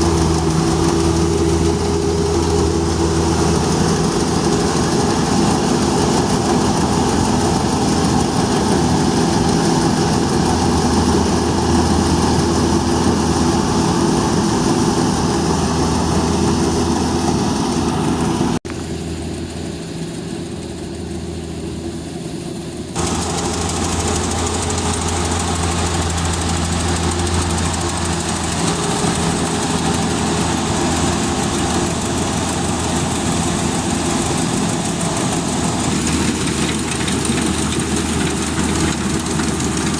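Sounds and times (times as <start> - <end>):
harvester engine humming: 0.0 - 21.8, 23.0 - 39.9.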